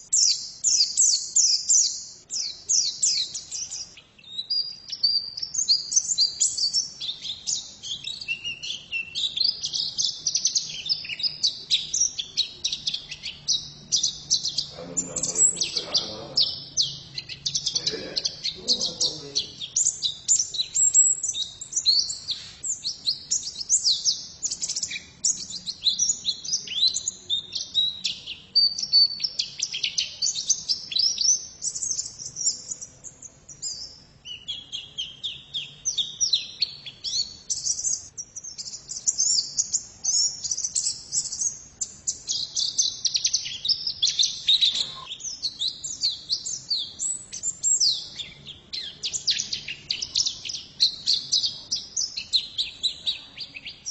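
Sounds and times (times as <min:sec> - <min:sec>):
white-eye bird singing: 0:00.0 - 0:53.9.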